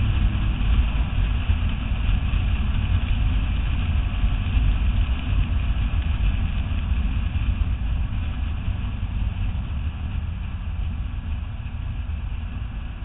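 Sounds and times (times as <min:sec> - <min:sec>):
car engine running at speed: 0:00.0 - 0:13.0.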